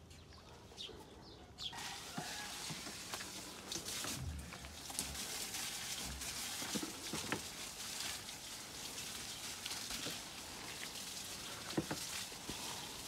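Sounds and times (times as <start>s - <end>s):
hose water spattering on soil: 1.7s - 13.0s.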